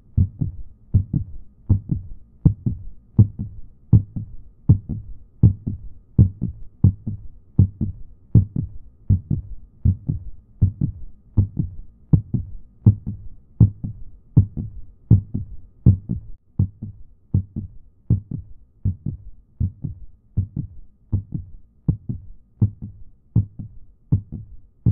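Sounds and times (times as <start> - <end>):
heartbeat thumps: 0.1 - 24.9.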